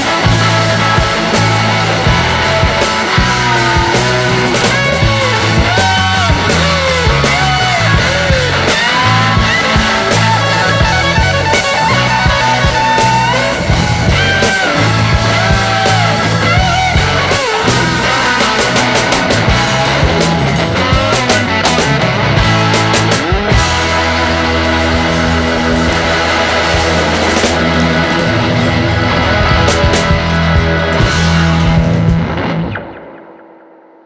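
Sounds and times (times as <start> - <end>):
rock music: 0.0 - 34.0.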